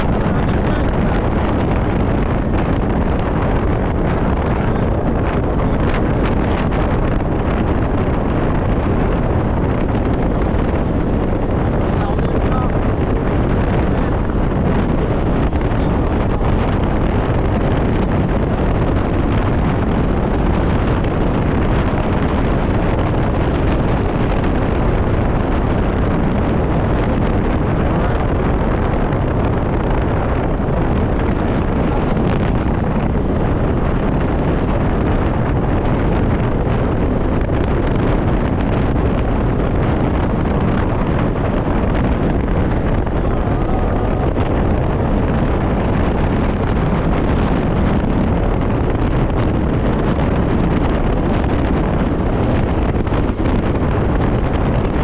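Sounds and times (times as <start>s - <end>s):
wind rushing on microphone: 0.0s - 55.0s.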